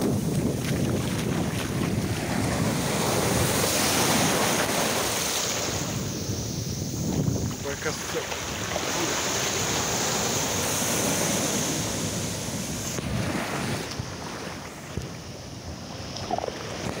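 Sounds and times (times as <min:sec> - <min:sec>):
surf washing over wet sand: 0:00.0 - 0:17.0
wind buffeting microphone: 0:00.0 - 0:17.0.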